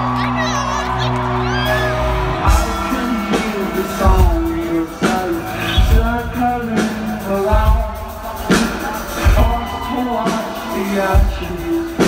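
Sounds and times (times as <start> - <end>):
bass drum beats: 0.0 - 12.0
live rock band with singing: 0.9 - 12.0.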